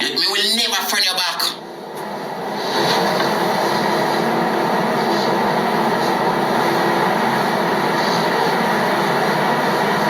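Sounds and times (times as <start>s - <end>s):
loud steady noise with low hum: 0.0s - 10.0s.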